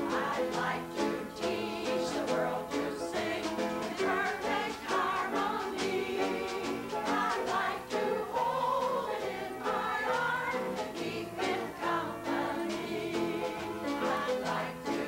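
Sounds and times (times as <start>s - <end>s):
group of women singing: 0.0s - 15.0s.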